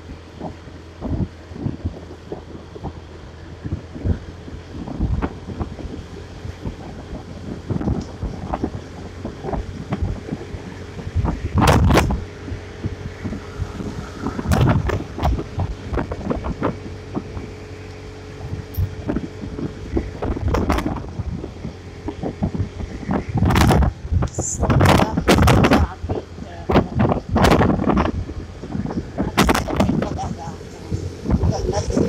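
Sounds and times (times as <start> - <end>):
motorcycle engine hum: 0.0 - 32.0
road noise: 0.0 - 32.0
wind buffeting microphone: 0.0 - 32.0.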